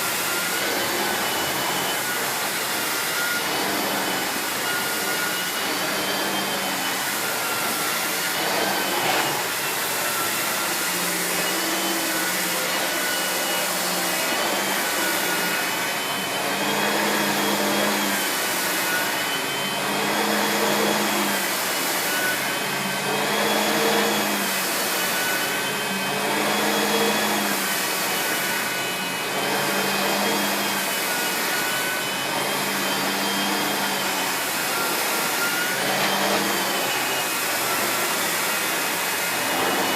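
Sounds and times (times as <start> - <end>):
brush head humming on carpet: 0.0 - 39.9
vacuum cleaner motor whine: 0.0 - 39.9.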